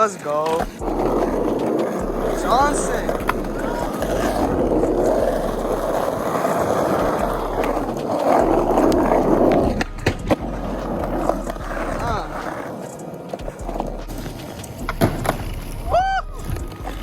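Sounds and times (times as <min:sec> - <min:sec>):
skateboard clacks: 0:00.0 - 0:17.0
skateboard wheels rolling: 0:00.0 - 0:17.0.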